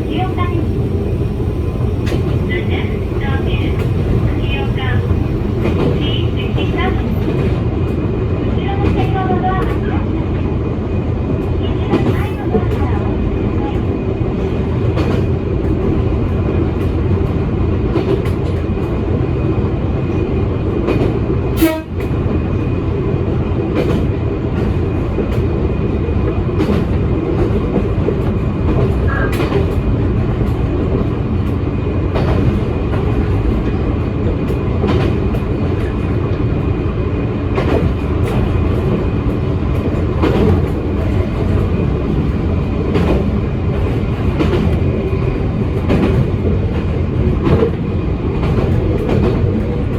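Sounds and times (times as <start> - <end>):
rail-joint clicks: 0.0 - 8.0, 11.4 - 19.0, 20.1 - 22.7, 23.7 - 25.6, 26.4 - 36.6, 37.5 - 49.9
electric train rumbling: 0.0 - 49.9.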